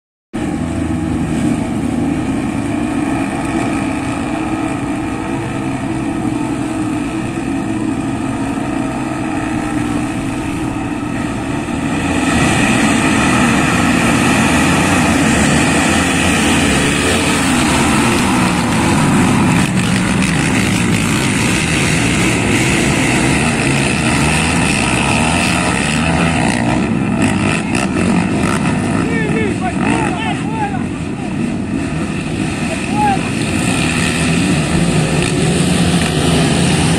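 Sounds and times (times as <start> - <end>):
quad bike engines racing: 0.4 - 36.9.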